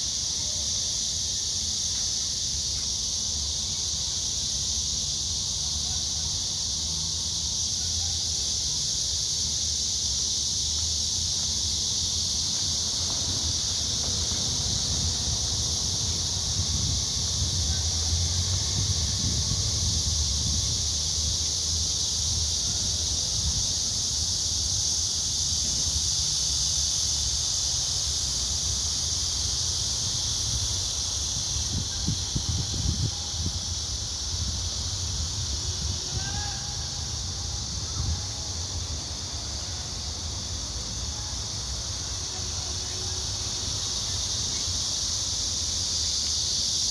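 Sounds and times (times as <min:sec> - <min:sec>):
insects chorus: 0:00.0 - 0:46.9.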